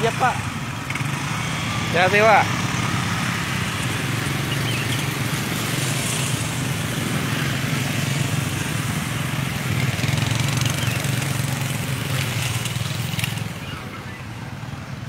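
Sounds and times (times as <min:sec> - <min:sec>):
motorcycle and truck engines humming: 0:00.0 - 0:15.0.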